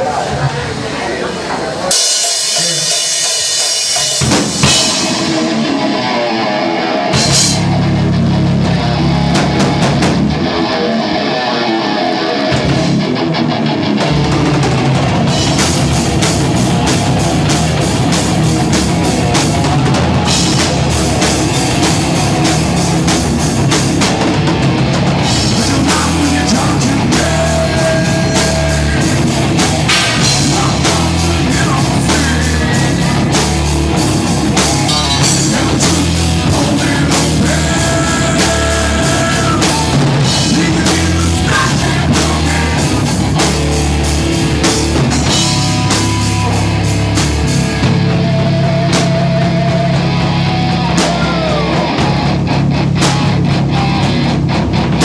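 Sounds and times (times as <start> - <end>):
live rock band playing: 0.0 - 55.0
pounding drum kit: 0.0 - 55.0.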